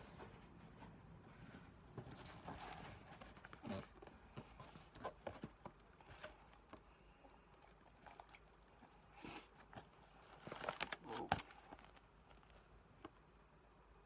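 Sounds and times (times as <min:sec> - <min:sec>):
light taps and rustles of handling: 0:00.0 - 0:13.2.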